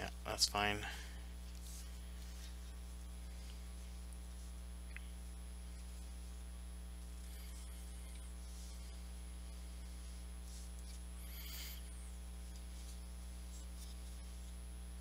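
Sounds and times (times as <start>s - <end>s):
electrical mains hum: 0.0s - 15.0s
faint high whine: 0.0s - 15.0s.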